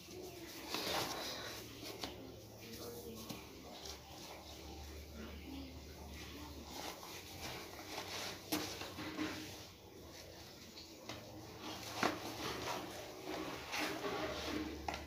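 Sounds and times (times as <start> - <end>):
rustling of shoes and laces: 0.0 - 5.0, 6.0 - 15.0.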